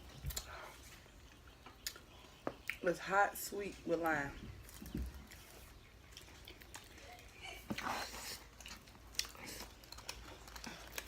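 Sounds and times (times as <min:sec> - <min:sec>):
person chewing food: 0:00.0 - 0:02.8, 0:04.6 - 0:11.0.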